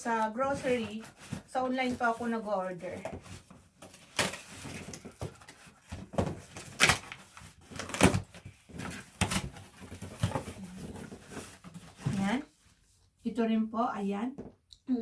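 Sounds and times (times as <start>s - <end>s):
packaging rustling: 0.0s - 12.4s.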